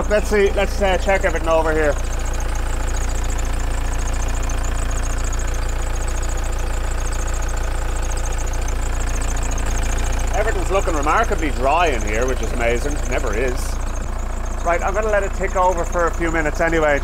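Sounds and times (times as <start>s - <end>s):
engine idling with ticking: 0.0s - 17.0s.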